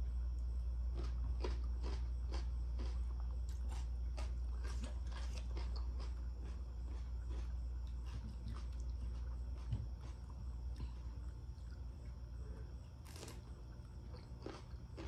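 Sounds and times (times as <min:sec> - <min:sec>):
steady low hum: 0:00.0 - 0:15.0
person chewing soft food: 0:00.3 - 0:15.0.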